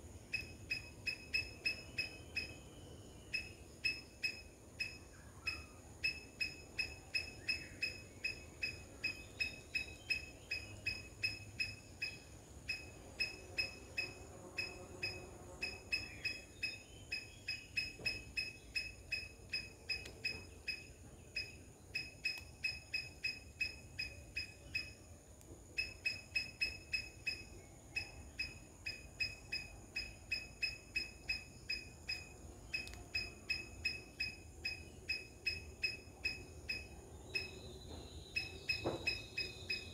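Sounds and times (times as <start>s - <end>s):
animal chirping call: 0.4s - 2.7s, 3.3s - 25.0s, 25.8s - 39.9s.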